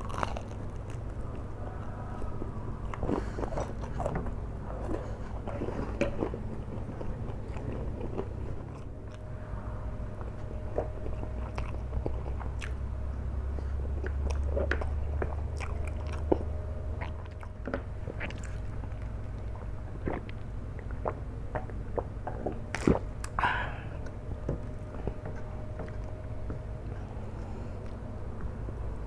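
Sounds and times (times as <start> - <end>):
person chewing noodles: 0.0 - 9.3, 10.2 - 29.0
low background hum: 0.0 - 29.0.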